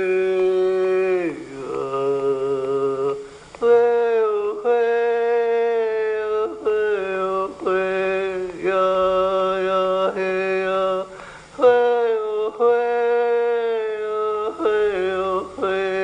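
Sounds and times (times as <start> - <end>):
wordless voice chanting held tones: 0.0 - 16.0.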